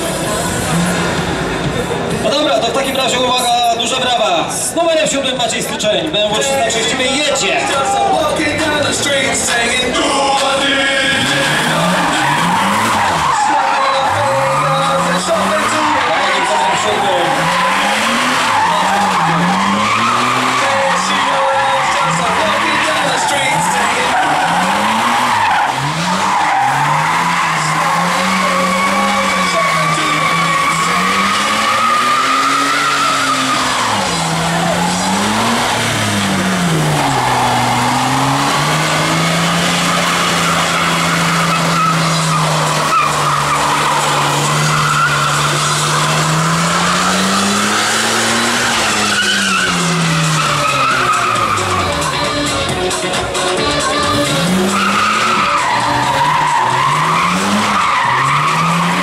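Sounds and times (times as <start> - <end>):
car engine revving high: 0.0 - 3.0, 8.3 - 53.2, 53.8 - 59.0
tyres screeching on tarmac: 0.0 - 59.0.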